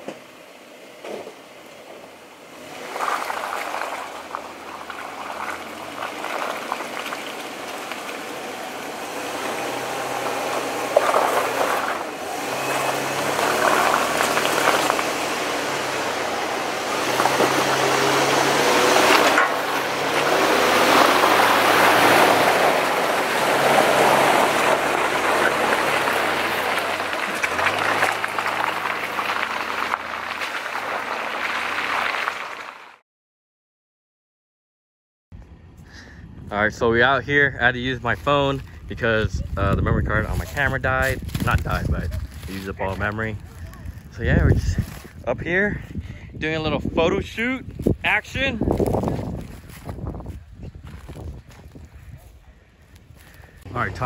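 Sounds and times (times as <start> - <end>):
truck engine pulling uphill: 0.0 - 33.0, 35.4 - 54.0
tyres crunching over dirt: 0.9 - 32.9, 37.7 - 46.0, 46.8 - 54.0.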